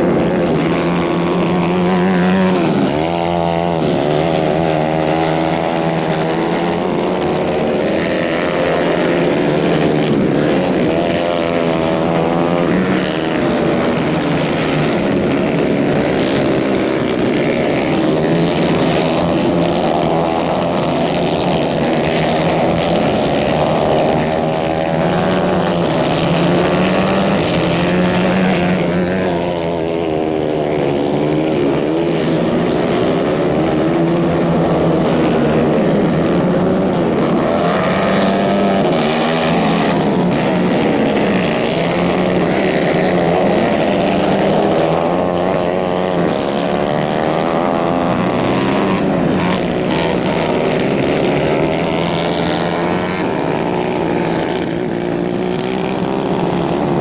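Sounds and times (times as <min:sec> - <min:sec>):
kart engines racing: 0:00.0 - 0:57.0.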